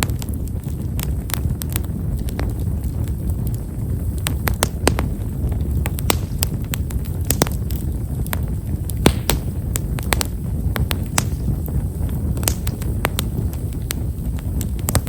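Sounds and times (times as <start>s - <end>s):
bonfire crackling: 0.0s - 15.0s
steady low rumble: 0.0s - 15.0s.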